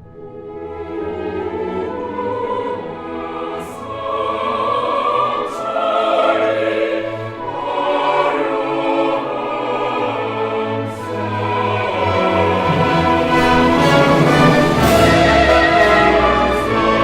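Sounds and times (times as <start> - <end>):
slow orchestral music: 0.0 - 17.0.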